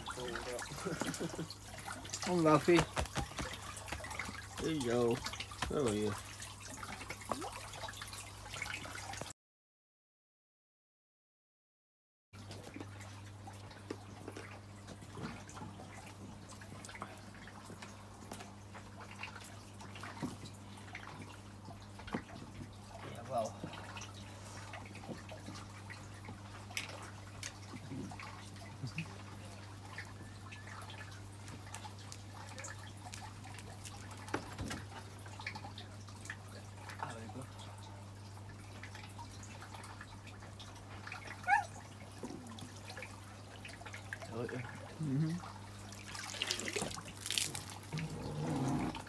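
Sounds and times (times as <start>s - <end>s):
water dripping and trickling: 0.0s - 9.3s, 12.4s - 49.0s.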